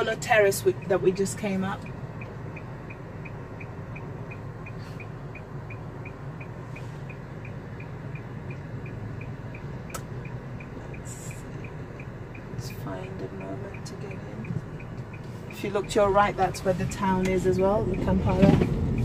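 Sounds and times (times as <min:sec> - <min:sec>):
car road and engine noise: 0:00.0 - 0:19.0
faint even ticking: 0:00.0 - 0:19.0.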